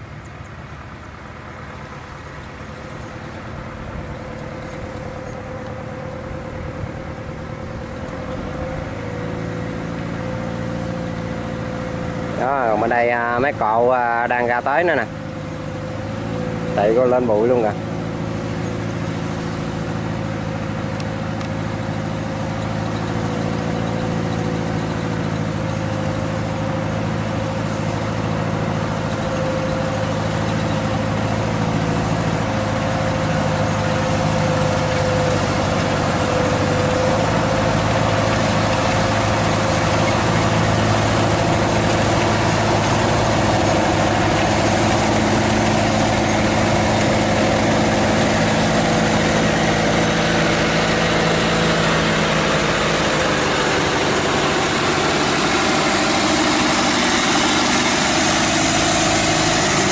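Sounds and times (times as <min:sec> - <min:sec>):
combine harvester diesel engine: 0:00.0 - 0:59.9
threshing machinery whine: 0:00.0 - 0:59.9.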